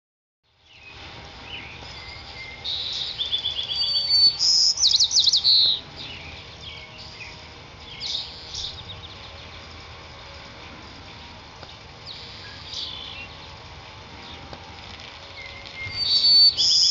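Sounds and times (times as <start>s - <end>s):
songbirds singing: 0.5s - 16.9s
steady low background noise: 0.5s - 16.9s.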